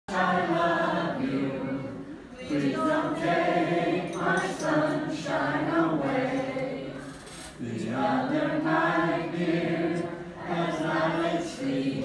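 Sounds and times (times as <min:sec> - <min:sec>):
voices singing slow song: 0:00.1 - 0:12.0.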